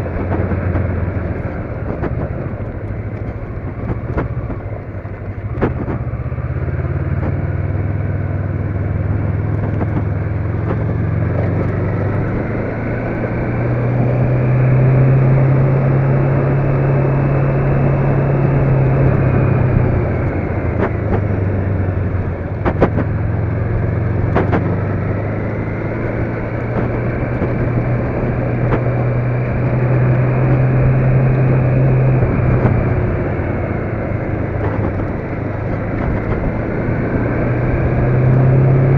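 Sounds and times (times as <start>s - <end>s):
road noise: 0.0s - 38.9s
vehicle engine drone: 0.0s - 38.9s.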